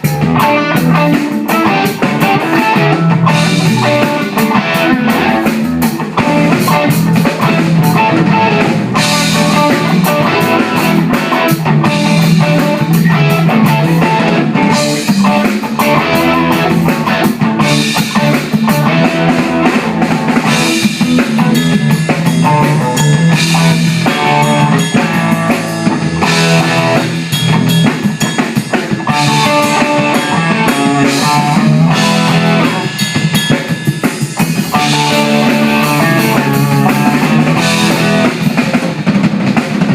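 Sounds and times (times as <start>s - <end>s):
drum kit with cymbals: 0.0s - 39.9s
electric guitar: 0.0s - 39.9s.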